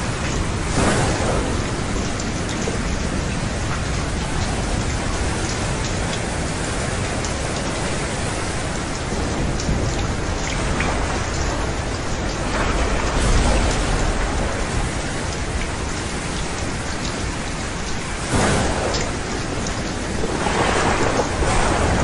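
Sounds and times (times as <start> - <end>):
low thunder rumble: 0.0 - 7.9, 8.7 - 22.0
steady rain: 0.0 - 22.0.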